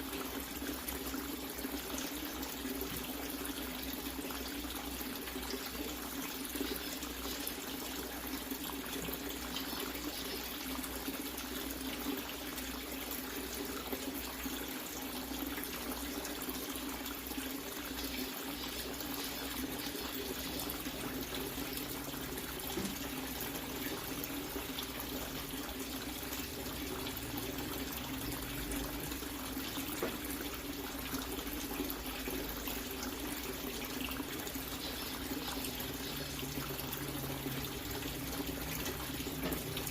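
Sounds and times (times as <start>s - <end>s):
water splashing into tank: 0.0s - 39.9s.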